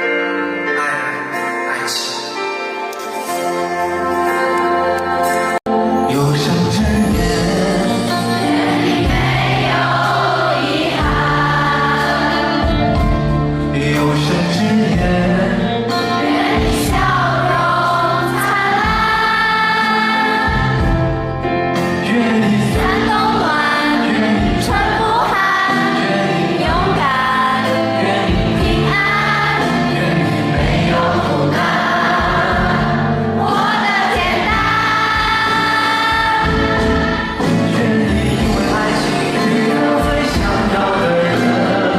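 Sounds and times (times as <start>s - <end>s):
live pop ballad: 0.0s - 41.9s.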